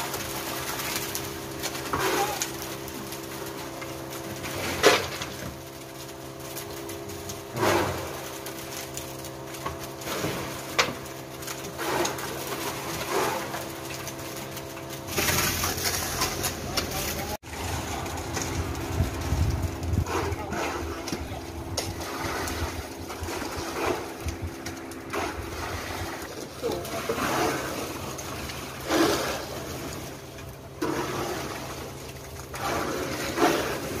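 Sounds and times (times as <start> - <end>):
concrete mixer truck humming: 0.0 - 34.0
wet concrete sliding down chute: 0.0 - 34.0.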